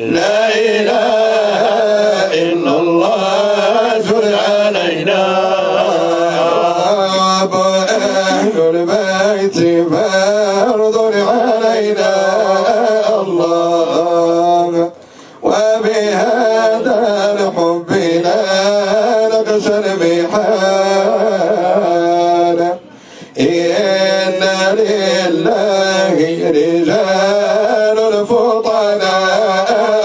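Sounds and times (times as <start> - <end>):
devotional chanting: 0.0 - 30.0.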